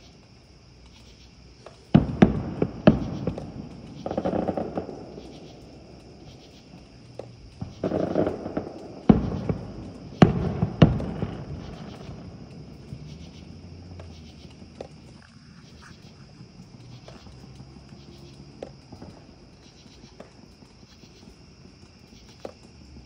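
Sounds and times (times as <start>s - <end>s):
fireworks crackling: 0.0s - 23.0s
distant fireworks bangs: 1.5s - 23.0s.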